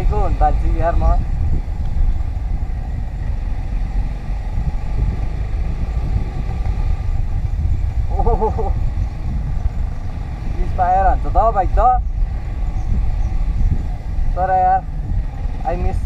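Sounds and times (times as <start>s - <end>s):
motorcycle engine rumble: 0.0s - 16.0s
wind rushing on microphone: 0.0s - 16.0s.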